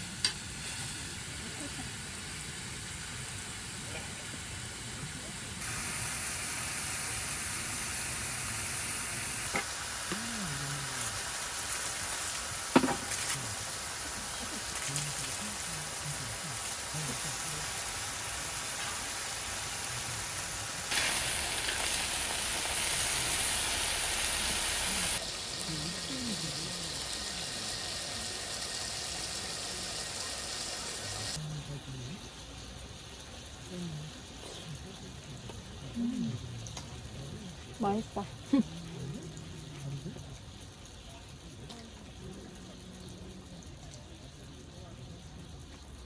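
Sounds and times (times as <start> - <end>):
food sizzling: 0.0 - 46.0.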